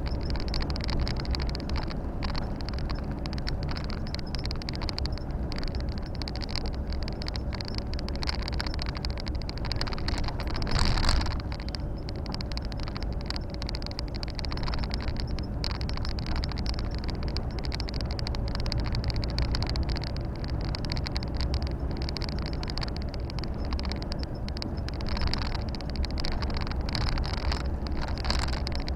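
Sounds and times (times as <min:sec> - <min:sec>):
road and wind noise: 0:00.0 - 0:28.9
truck diesel engine rumble: 0:00.0 - 0:28.9.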